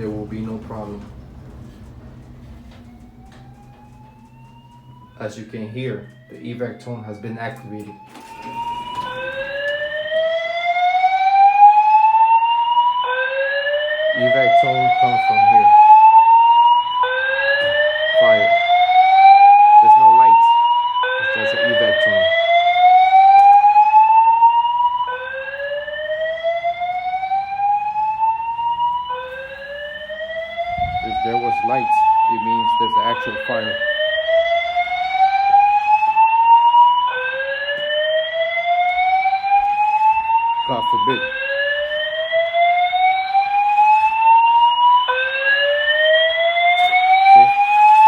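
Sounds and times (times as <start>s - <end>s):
fire alarm rising sweep tone: 0.0s - 48.0s.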